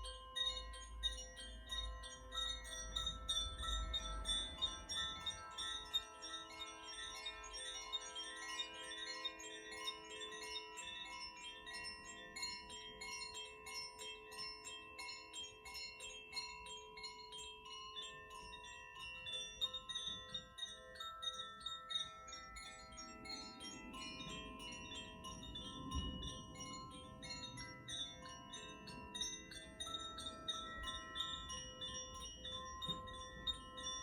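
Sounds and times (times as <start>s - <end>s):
wind chimes ringing: 0.0s - 34.0s.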